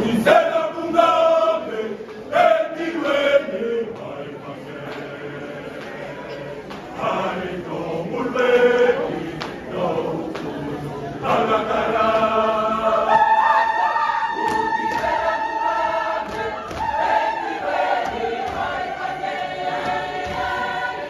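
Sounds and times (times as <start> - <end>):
large choir singing: 0.0 - 21.0.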